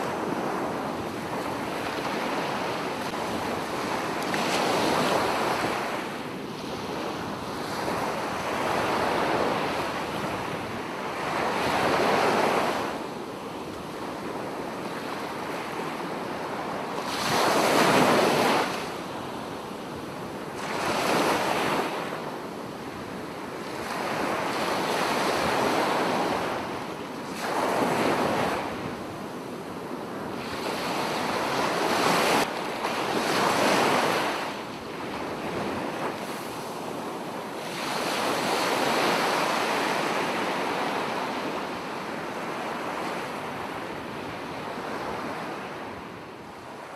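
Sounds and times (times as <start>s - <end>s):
waves breaking on a beach: 0.0s - 46.9s
wind on microphone: 0.0s - 46.9s.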